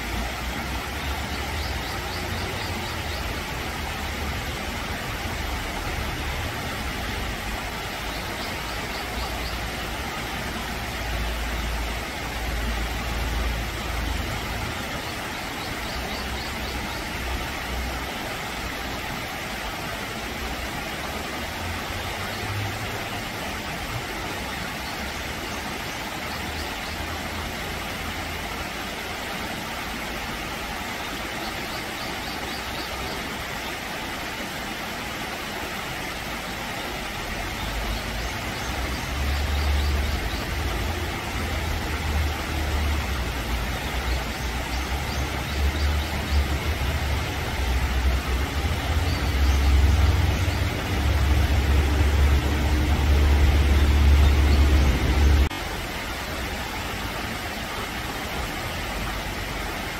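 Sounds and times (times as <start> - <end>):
water running over rocks: 0.0 - 59.9.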